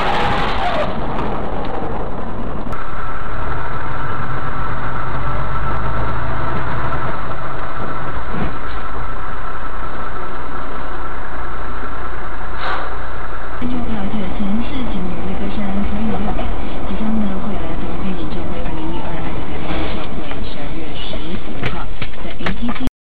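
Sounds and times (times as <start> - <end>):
vehicle engine droning: 0.0 - 22.9.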